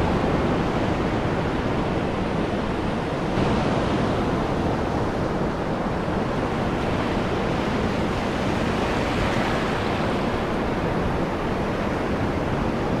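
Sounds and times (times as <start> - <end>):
ocean surf washing up beach: 0.0 - 13.0.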